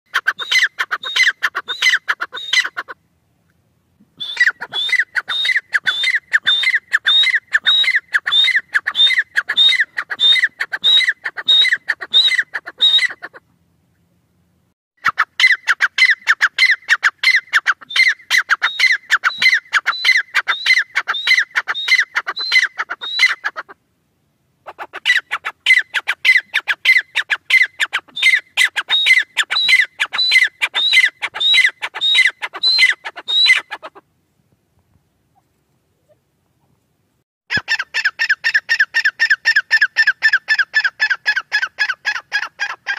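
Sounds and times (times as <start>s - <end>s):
bird shrill repeated calls: 0.1s - 3.0s, 4.2s - 13.4s, 15.0s - 23.8s, 24.7s - 34.0s, 37.5s - 42.9s.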